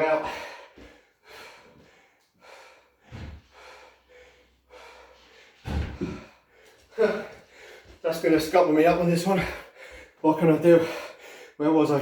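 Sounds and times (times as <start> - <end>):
man breathing hard: 0.0 - 8.0, 9.3 - 11.6.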